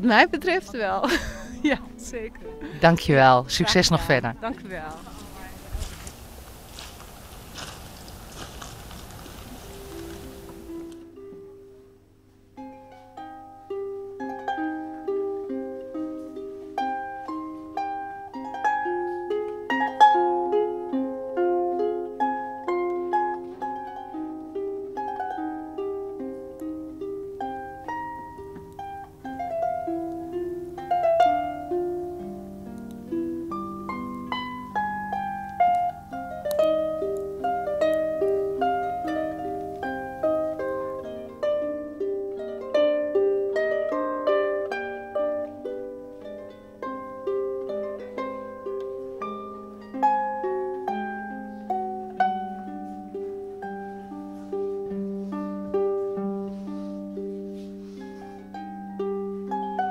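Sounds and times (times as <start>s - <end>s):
harp plucked melody: 0.0s - 6.9s, 7.6s - 59.9s.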